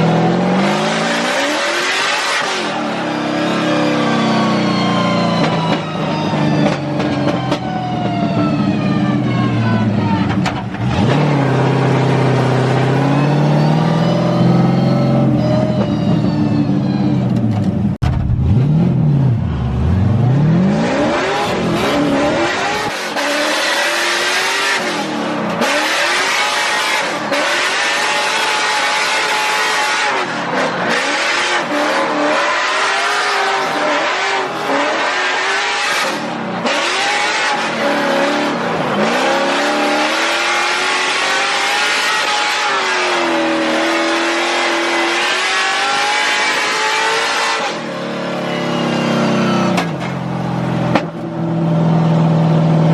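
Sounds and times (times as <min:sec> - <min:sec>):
car engines revving hard: 0:00.0 - 0:07.6, 0:08.6 - 0:15.8, 0:18.2 - 0:51.2.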